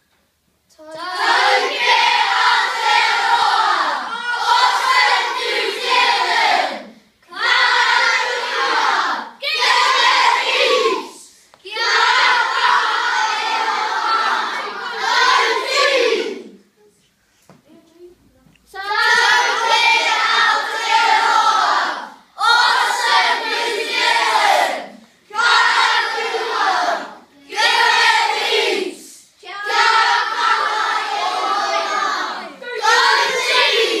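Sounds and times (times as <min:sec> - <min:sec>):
children chanting in unison: 0:00.8 - 0:16.6, 0:18.7 - 0:34.0.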